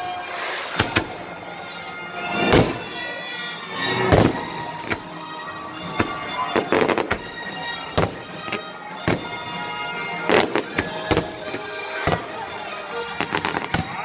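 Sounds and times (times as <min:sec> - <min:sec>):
fireworks bursting with bangs: 0:00.0 - 0:14.0
music with held tones: 0:00.0 - 0:14.0.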